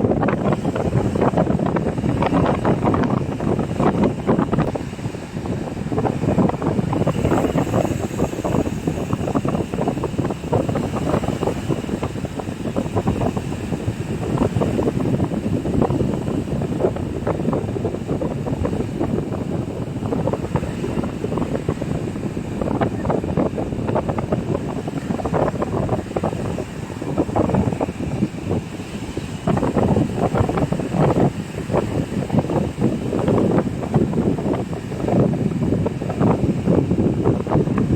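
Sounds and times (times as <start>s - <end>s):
sea waves washing on shore: 0.0s - 37.9s
wind buffeting microphone: 0.0s - 37.9s.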